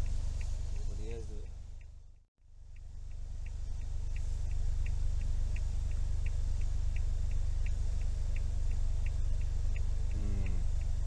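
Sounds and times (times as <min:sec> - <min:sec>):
car idling hum: 0:00.0 - 0:11.0
turn signal ticking: 0:00.0 - 0:11.0.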